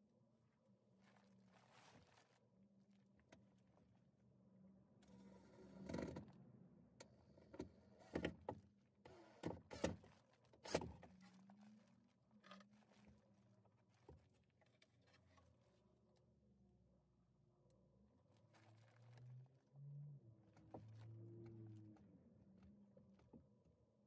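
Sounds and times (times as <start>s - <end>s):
faint handling sounds: 0.4s - 4.2s, 8.5s - 24.0s.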